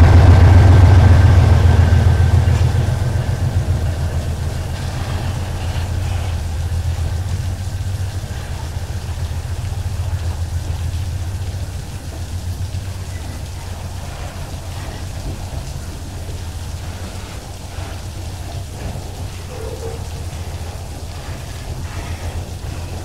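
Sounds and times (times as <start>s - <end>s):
freight train rumbling past: 0.0s - 23.0s
heavy rain pouring: 0.0s - 23.0s.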